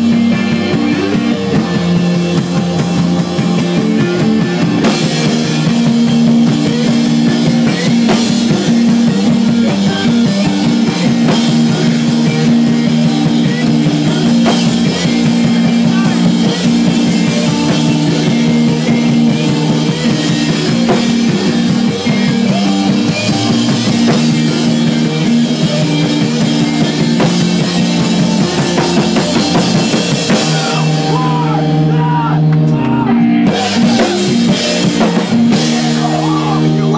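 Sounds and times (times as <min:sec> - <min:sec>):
dense drumming: 0:00.0 - 0:36.9
live rock band playing: 0:00.0 - 0:36.9.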